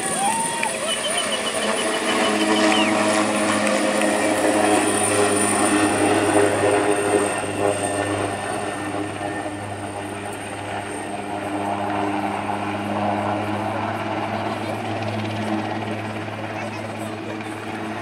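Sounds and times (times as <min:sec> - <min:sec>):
helicopter rotor and engine drone: 0:00.0 - 0:18.0
high turbine whine: 0:00.0 - 0:18.0.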